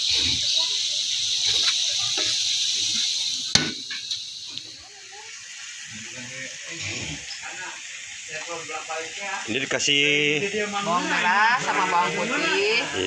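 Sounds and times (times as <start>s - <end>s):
fish sizzling in a grill pan: 0.0s - 13.0s.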